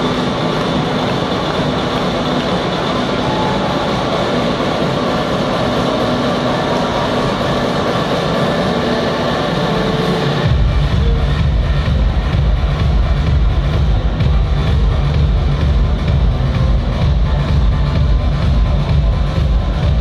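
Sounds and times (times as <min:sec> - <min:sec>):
electronic music with heavy bass: 0:00.0 - 0:20.0.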